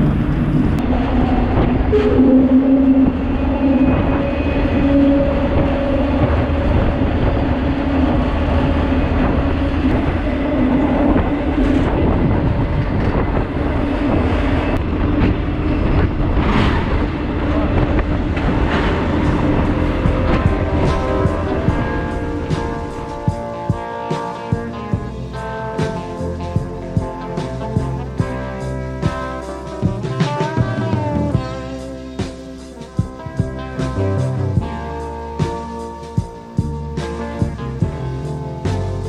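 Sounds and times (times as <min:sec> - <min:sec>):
droning hum: 0:00.0 - 0:39.0
train wheels rumbling on rail: 0:00.0 - 0:39.0.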